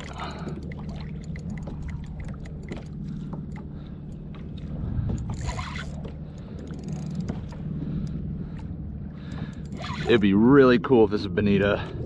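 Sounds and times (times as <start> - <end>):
steady low hum: 0.0 - 12.0
water sloshing against kayak hull: 0.0 - 12.0.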